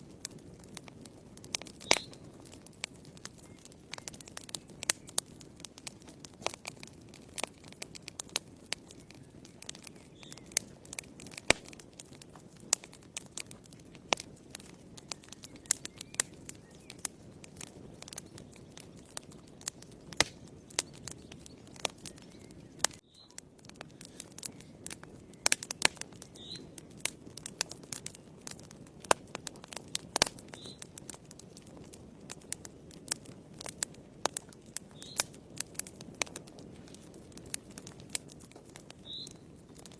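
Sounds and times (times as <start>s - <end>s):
low rush of flames: 0.0s - 39.9s
wood fire crackling and popping: 0.0s - 39.9s.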